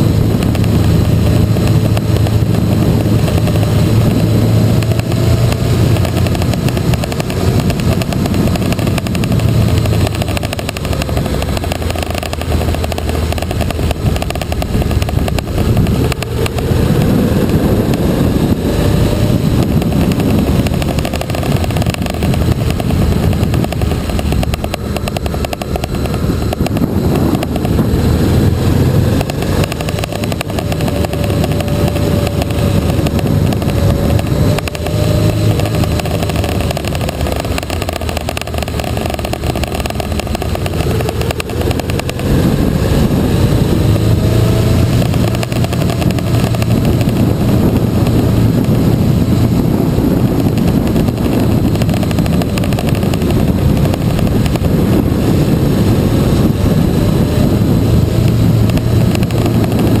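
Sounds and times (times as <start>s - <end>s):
motorcycle engine running: 0.0s - 60.0s
wind noise on microphone: 0.0s - 60.0s.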